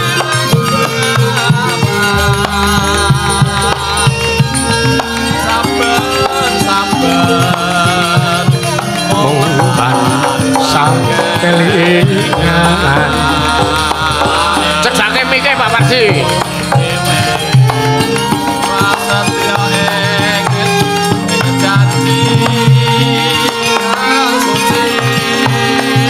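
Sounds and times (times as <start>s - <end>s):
hand drums: 0.0s - 26.0s
struck bronze metallophones: 0.0s - 26.0s
wavering melody: 0.0s - 26.0s.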